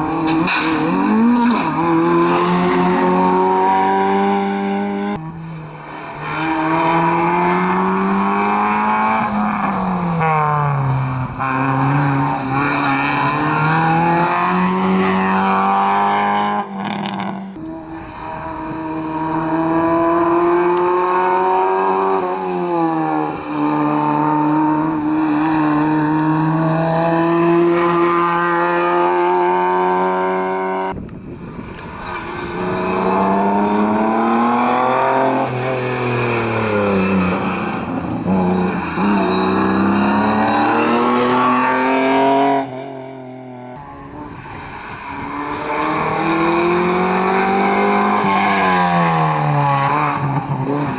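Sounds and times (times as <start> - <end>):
rally car engines revving: 0.0 - 50.9.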